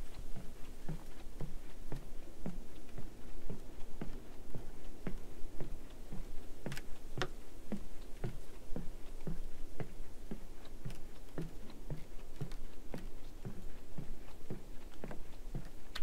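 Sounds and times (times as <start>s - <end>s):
footsteps on wooden boardwalk: 0.0s - 16.0s.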